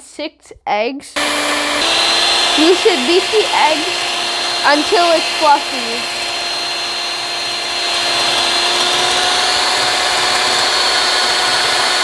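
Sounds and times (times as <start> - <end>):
electric hand mixer whisking: 1.2 - 12.0.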